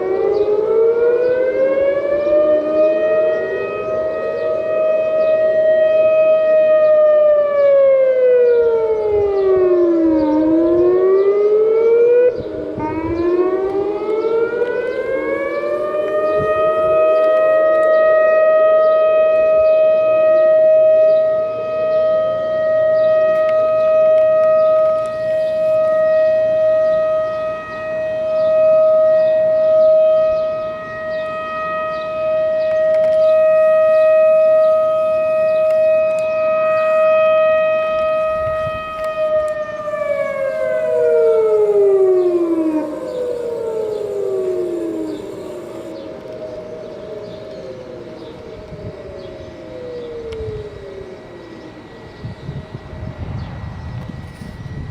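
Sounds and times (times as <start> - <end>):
warning siren: 0.0 - 54.9.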